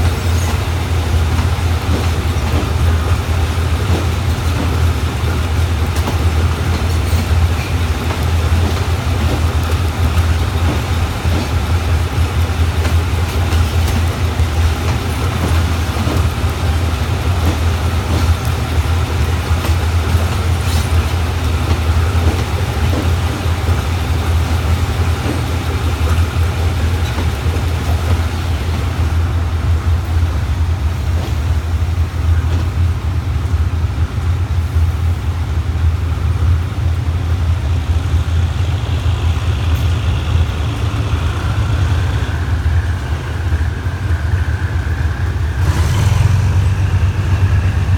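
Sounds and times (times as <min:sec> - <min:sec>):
train engine hum: 0:00.0 - 0:47.9
train rolling noise: 0:00.0 - 0:47.9.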